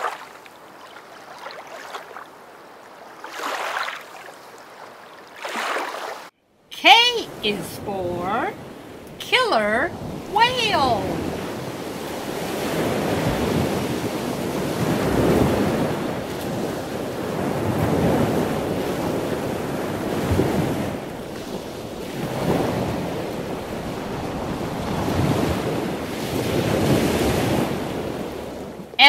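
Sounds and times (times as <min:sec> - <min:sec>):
water rushing and splashing: 0:00.0 - 0:06.3, 0:06.9 - 0:28.2.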